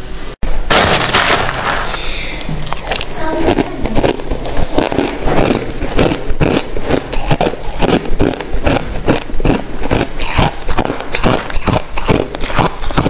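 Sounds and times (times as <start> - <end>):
crushed ice being chewed: 1.5 - 13.0.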